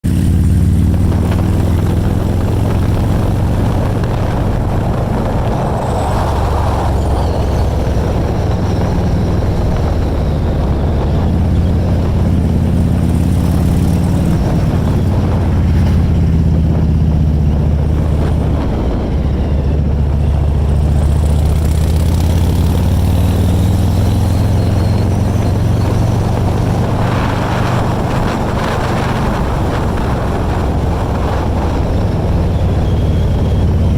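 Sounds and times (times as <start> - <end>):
motorcycle engine cruising: 0.0 - 33.9
rushing air: 0.0 - 33.9.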